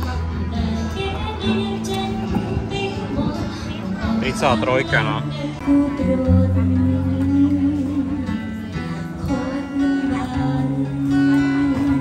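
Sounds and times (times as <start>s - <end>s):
guitar playing: 0.0s - 12.0s
person singing: 0.0s - 12.0s.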